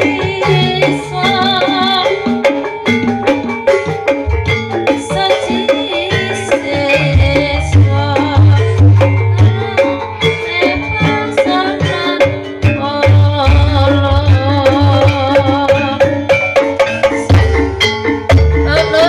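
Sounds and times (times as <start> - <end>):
hand drums: 0.0 - 19.0
rapid struck percussion: 0.0 - 19.0
wavering melody: 0.0 - 19.0.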